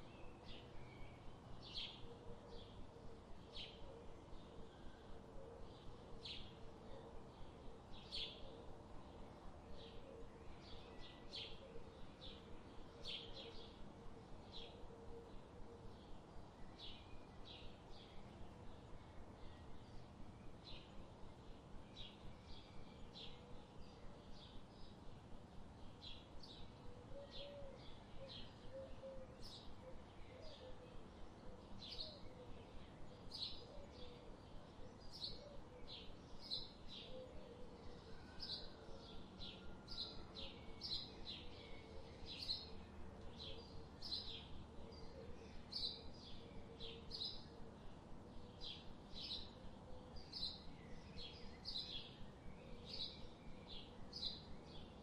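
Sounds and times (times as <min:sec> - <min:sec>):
faint outdoor background noise: 0:00.0 - 0:55.0
songbirds chirping: 0:00.0 - 0:55.0.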